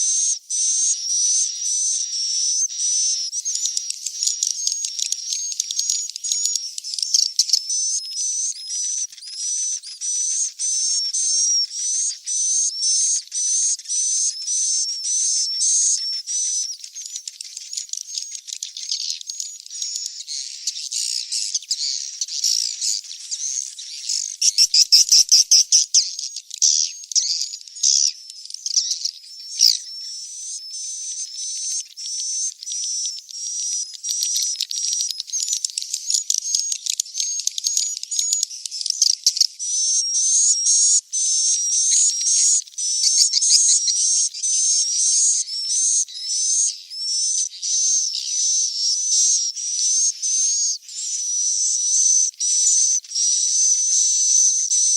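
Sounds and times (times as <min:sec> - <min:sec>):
bird chicks chirping: 0:00.0 - 0:54.9.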